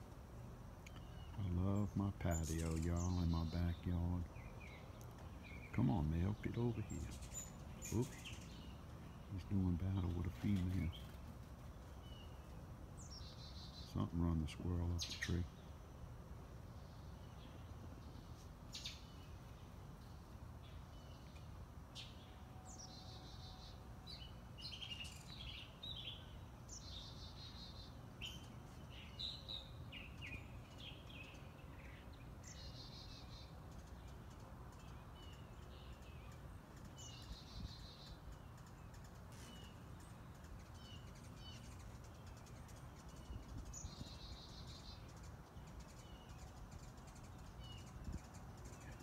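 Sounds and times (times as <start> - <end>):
songbird trilling phrase: 0.9 - 11.2, 11.9 - 16.0, 16.8 - 49.0.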